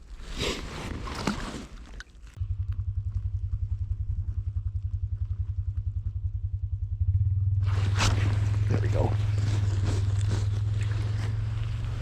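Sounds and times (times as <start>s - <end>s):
small engine idling: 2.4s - 12.0s.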